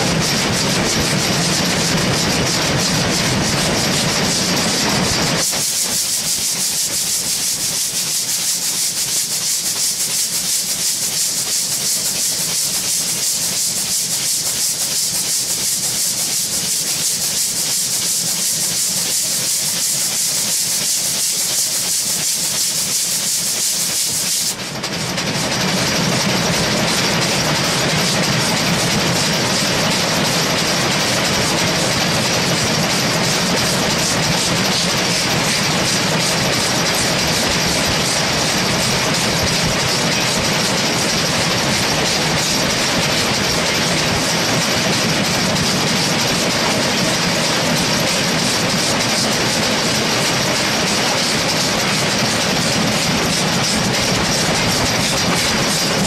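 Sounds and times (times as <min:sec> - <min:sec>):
steam hissing: 0:00.0 - 0:56.0
wheels clattering on rails: 0:00.0 - 0:56.0.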